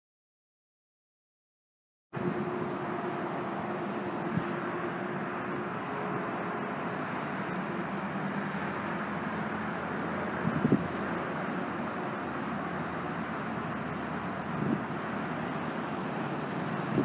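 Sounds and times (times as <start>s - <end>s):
bus engine: 2.2s - 17.0s
faint steady drone: 2.2s - 17.0s
road traffic: 2.2s - 17.0s.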